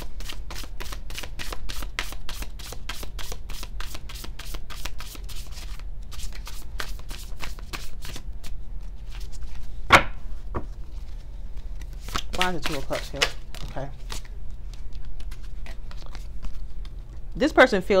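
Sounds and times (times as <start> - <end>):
cards being shuffled: 0.2 - 9.7, 10.6 - 17.3.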